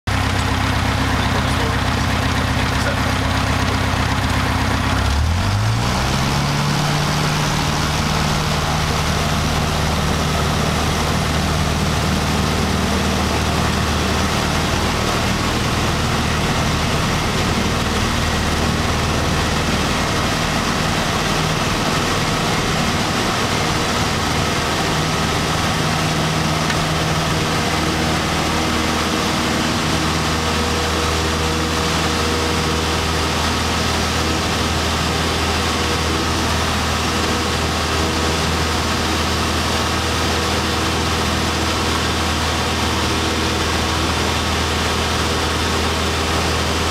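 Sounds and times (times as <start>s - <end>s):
light aircraft engine and propeller: 0.1s - 46.9s.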